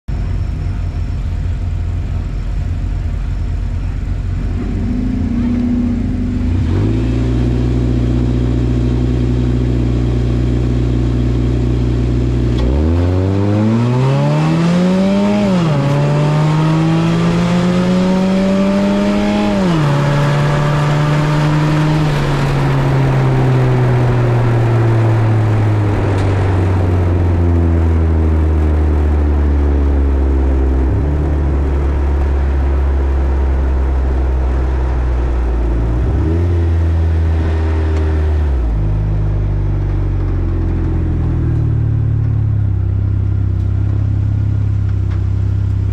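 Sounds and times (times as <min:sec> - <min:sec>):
drag car engine revving: 0:00.4 - 0:45.9.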